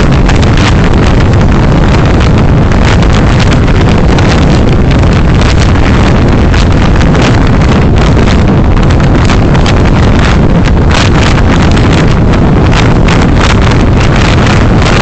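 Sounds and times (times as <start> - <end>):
car road and wind rumble: 0.0 - 15.0
wind crackles on microphone: 0.0 - 15.0.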